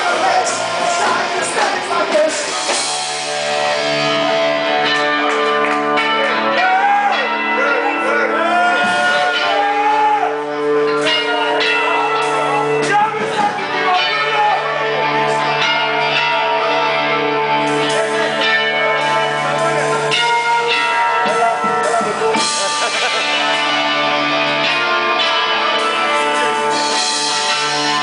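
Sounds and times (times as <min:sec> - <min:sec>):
electric guitar: 0:00.0 - 0:28.0
live instrumental band: 0:00.0 - 0:28.0.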